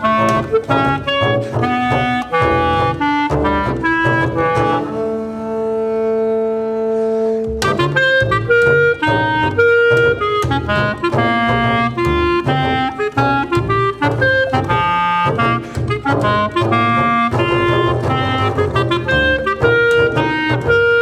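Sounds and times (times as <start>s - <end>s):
clarinet playing quick runs: 0.0s - 21.0s
double bass low notes: 0.0s - 21.0s.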